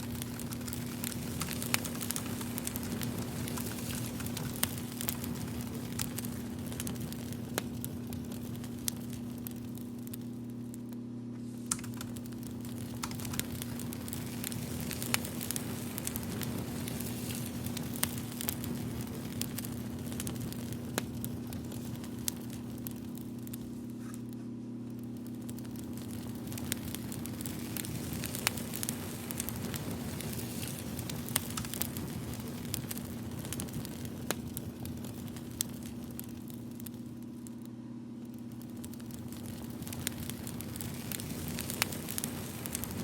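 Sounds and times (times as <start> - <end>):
campfire crackling: 0.0 - 43.0
low hum: 0.0 - 43.0.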